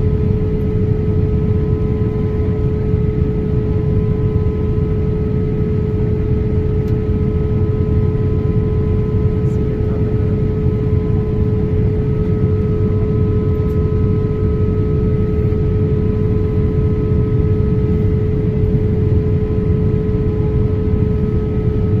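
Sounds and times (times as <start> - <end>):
airplane cabin engine rush: 0.0 - 22.0.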